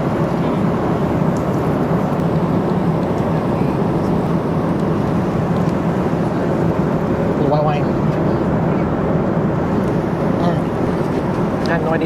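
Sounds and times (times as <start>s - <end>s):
jet airliner cabin noise: 0.0s - 12.0s.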